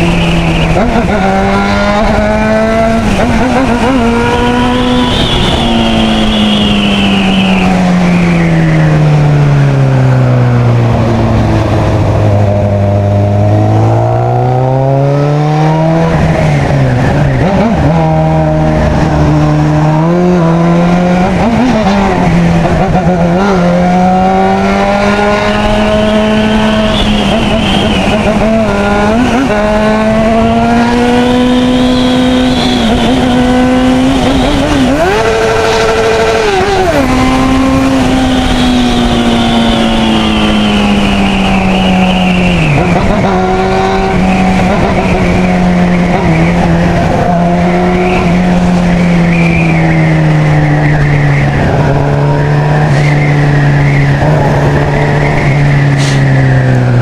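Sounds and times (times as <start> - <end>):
motorcycle engine at high revs: 0.0 - 10.0, 10.9 - 57.0
wind noise: 0.0 - 57.0.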